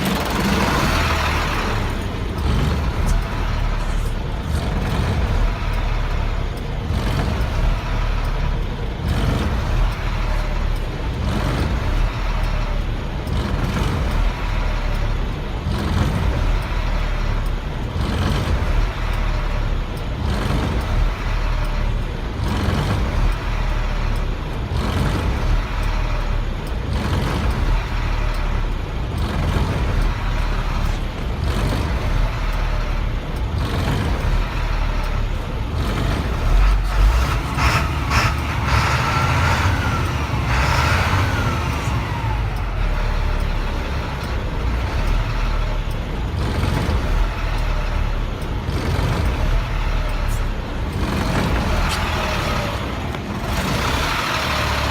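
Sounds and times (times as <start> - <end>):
diesel truck engine surging: 0.0 - 54.9.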